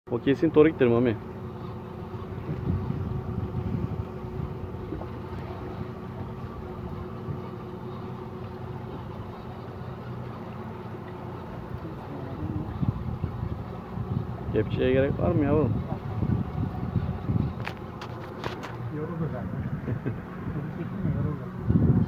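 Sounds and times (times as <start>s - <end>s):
boat engine humming: 0.1s - 22.0s
water along a hull: 0.1s - 22.0s
wind: 0.1s - 22.0s.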